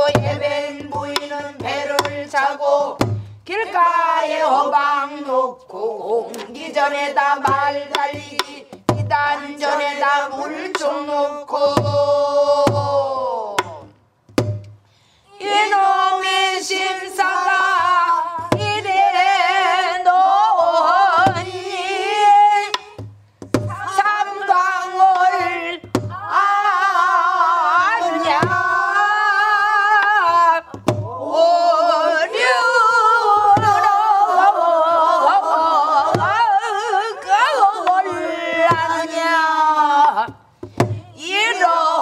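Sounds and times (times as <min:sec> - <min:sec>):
woman singing with vibrato: 0:00.0 - 0:13.8, 0:15.3 - 0:23.0, 0:23.7 - 0:42.0.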